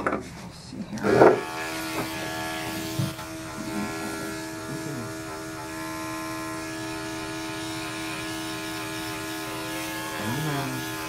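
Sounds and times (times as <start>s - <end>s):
electric clippers buzzing: 1.0s - 11.0s.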